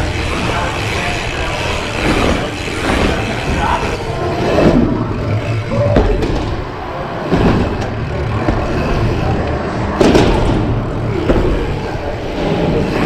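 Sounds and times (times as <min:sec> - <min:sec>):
bike tyres rumbling on ramps: 0:00.0 - 0:13.0.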